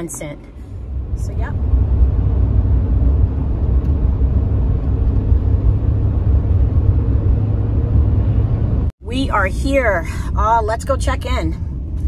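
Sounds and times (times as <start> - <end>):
road and engine rumble in a van: 0.0 - 12.0.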